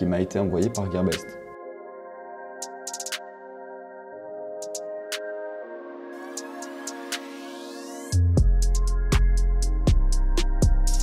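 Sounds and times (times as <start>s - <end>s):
synthesizer chords: 0.0s - 11.0s.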